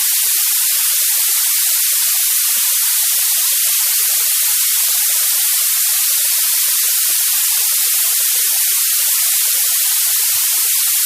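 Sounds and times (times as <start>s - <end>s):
white noise hiss: 0.0s - 11.0s.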